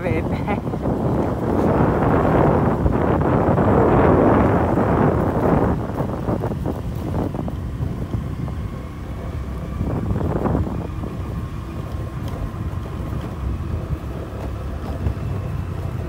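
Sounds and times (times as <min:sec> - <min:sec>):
motorcycle engine drone: 0:00.0 - 0:16.0
wind buffeting the microphone: 0:00.0 - 0:16.0.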